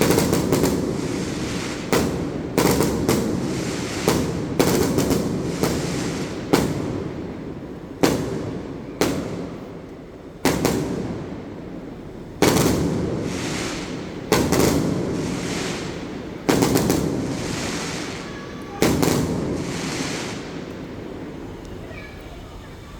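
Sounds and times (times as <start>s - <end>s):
fireworks bursting: 0.0s - 22.8s.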